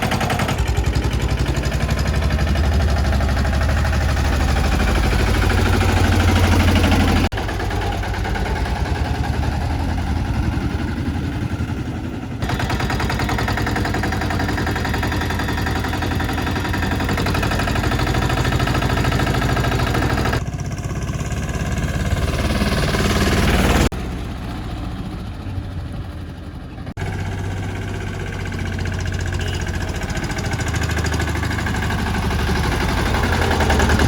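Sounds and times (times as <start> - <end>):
tractor diesel engine chugging: 0.0 - 34.0.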